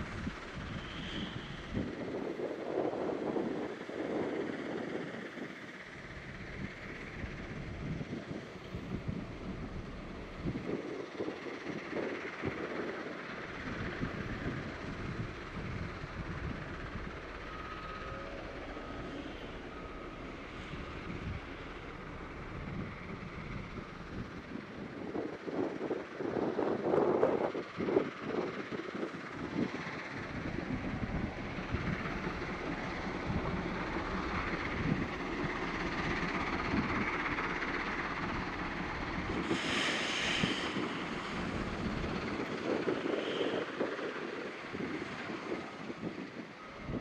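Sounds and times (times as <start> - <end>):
wheel loader diesel engine rumbling: 0.0 - 47.0.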